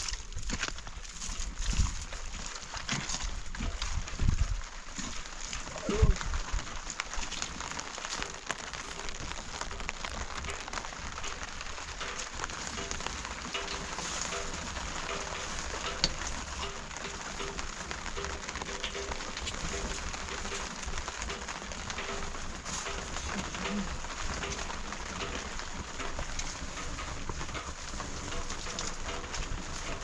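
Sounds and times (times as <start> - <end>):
rain pattering: 0.0 - 30.0
small ticks: 5.5 - 30.0.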